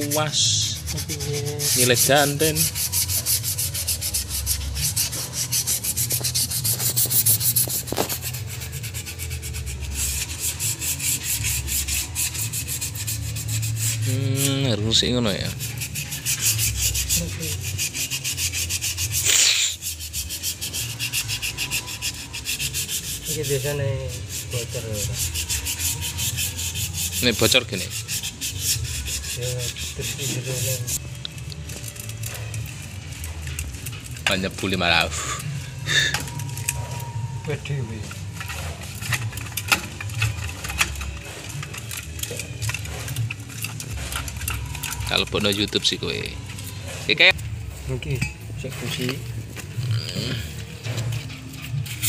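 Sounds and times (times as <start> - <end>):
sandpaper rubbing brake shoes: 0.0 - 47.9, 50.5 - 52.0
brush bristles scratching on metal: 0.0 - 52.0.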